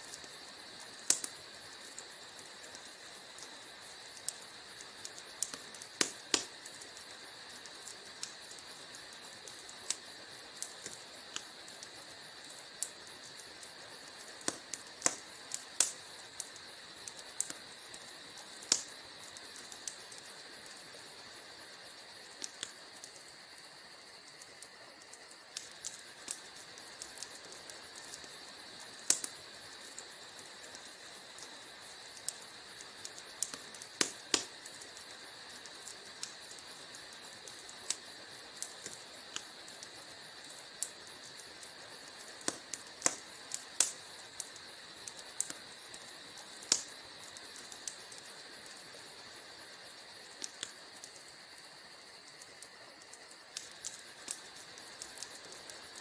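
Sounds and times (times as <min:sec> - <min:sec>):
wood fire crackling in fireplace: 0:00.0 - 0:56.0.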